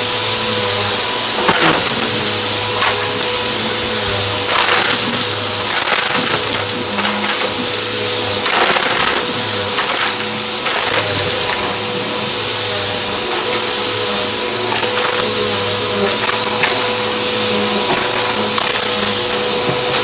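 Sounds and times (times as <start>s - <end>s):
debris crackling in vacuum: 0.0s - 20.0s
vacuum cleaner running: 0.0s - 20.0s.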